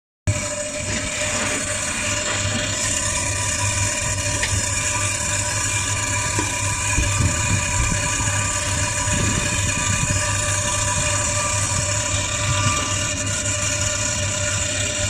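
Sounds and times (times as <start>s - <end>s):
refrigeration unit humming: 0.3s - 15.0s.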